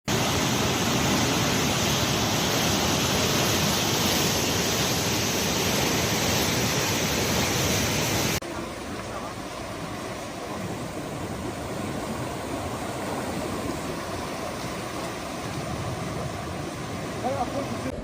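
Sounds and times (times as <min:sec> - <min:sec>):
rushing floodwater: 0:00.1 - 0:18.0.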